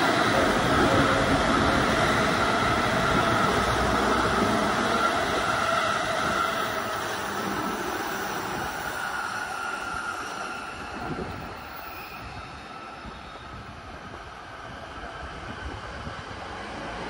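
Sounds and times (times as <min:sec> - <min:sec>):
electric trains passing: 0:00.0 - 0:17.0.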